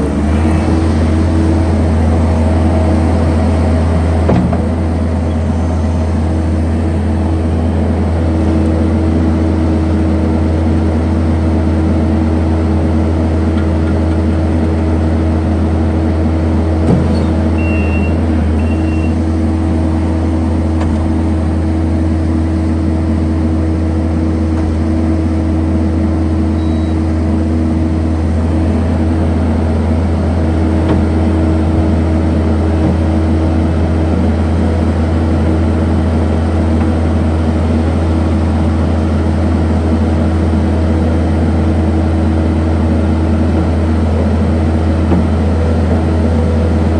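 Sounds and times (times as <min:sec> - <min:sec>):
diesel engine running steadily: 0:00.0 - 0:46.9.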